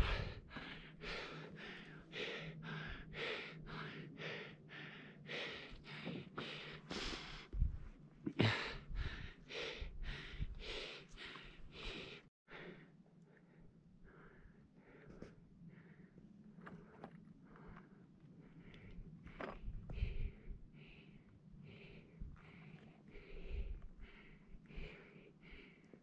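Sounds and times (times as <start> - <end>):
person breathing hard: 0.0 - 26.0.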